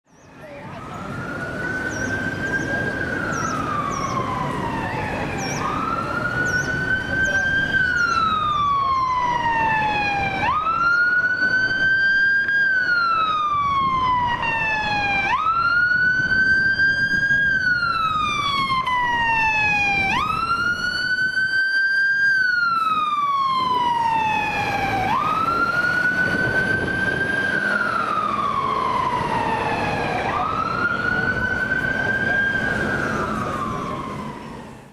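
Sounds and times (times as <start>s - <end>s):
truck engine and tyres: 0.1s - 34.9s
fire engine siren wailing: 0.3s - 34.9s.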